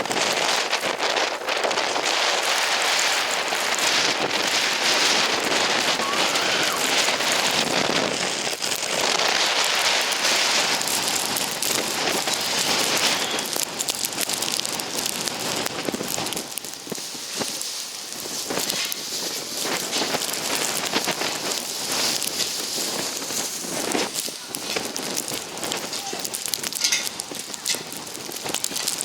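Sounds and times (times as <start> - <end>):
blizzard wind rushing hiss: 0.0 - 29.0
fine crackling ticks: 0.0 - 29.0.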